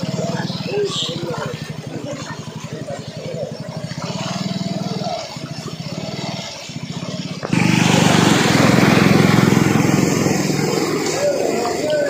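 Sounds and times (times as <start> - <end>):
loud rough noise: 0.0 - 12.0
small engine pulsing: 0.0 - 12.0.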